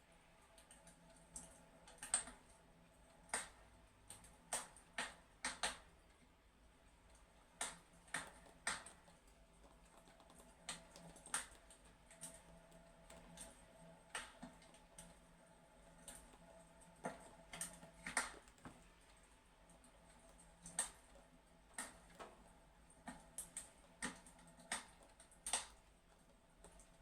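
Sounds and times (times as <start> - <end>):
wood fire crackling: 0.5 - 27.0.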